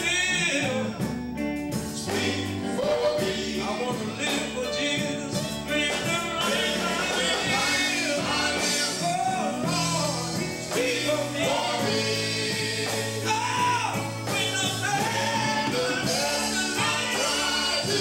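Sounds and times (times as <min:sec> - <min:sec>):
male vocal group singing: 0:00.0 - 0:01.0, 0:01.9 - 0:18.0
bass guitar: 0:00.0 - 0:18.0
electric guitar: 0:00.0 - 0:18.0
keyboard: 0:00.0 - 0:18.0.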